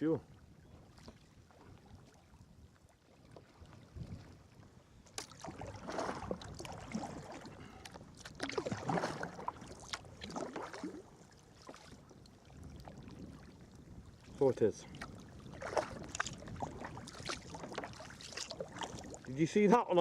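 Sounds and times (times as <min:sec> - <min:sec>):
paddle splashing in water: 0:00.7 - 0:19.6.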